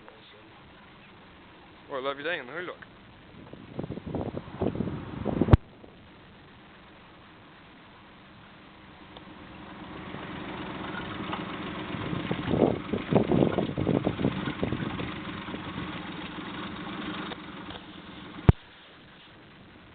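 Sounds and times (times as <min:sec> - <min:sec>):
engine running: 0:02.8 - 0:19.9.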